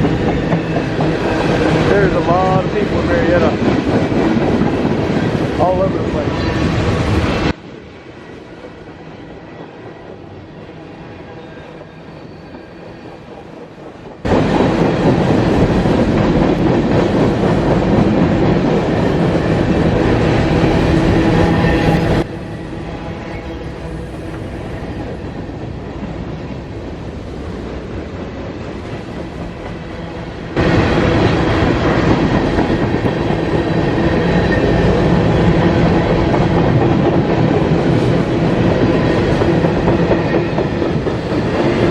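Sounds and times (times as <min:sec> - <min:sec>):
train wheels clicking over rail joints: 0:00.0 - 0:06.0, 0:11.7 - 0:22.3, 0:24.1 - 0:41.9
freight train rolling past: 0:00.0 - 0:41.9.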